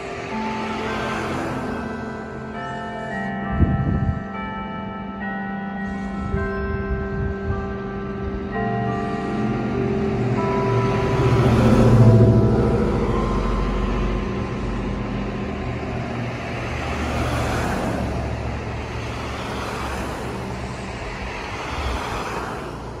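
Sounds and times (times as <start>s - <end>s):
church bell hum: 0.0s - 21.3s
vehicles passing: 0.0s - 23.0s.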